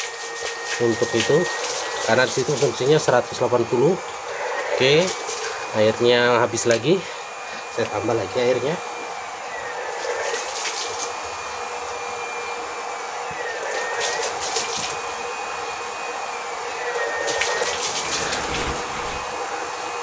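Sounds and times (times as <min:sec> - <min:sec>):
water pump whining: 0:00.0 - 0:20.0.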